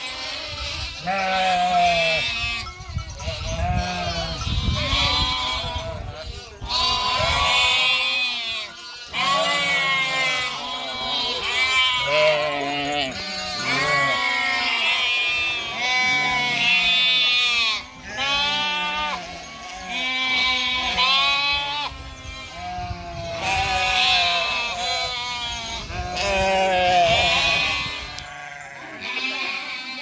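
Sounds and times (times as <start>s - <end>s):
sheep bleating: 0.0s - 30.0s.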